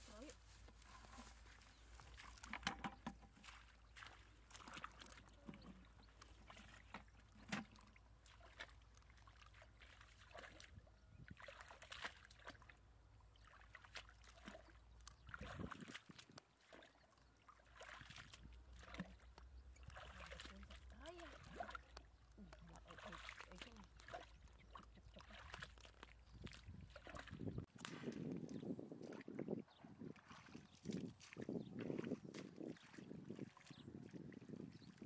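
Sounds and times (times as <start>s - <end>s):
splashing in shallow muddy water: 0.0s - 35.0s.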